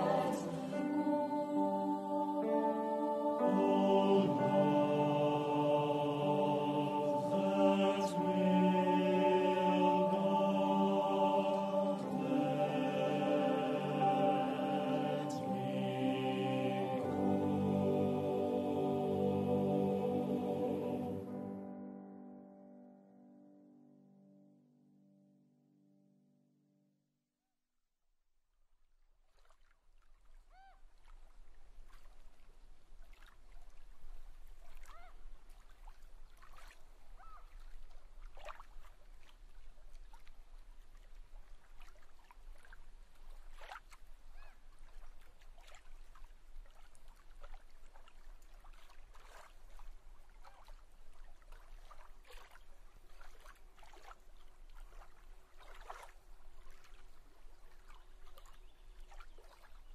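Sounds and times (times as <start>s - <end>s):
water trickling and lapping: 0.0s - 21.4s, 28.9s - 59.9s.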